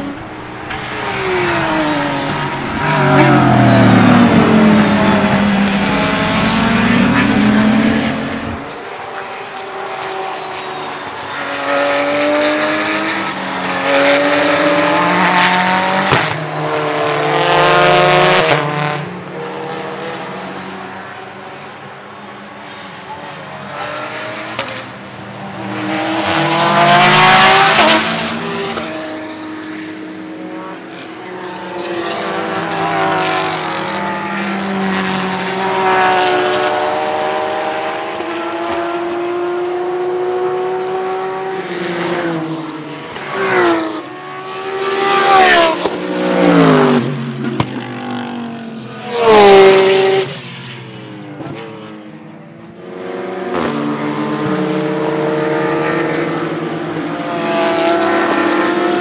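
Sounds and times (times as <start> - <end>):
engines upshifting: 0.0 - 59.0
race cars passing: 0.0 - 59.0.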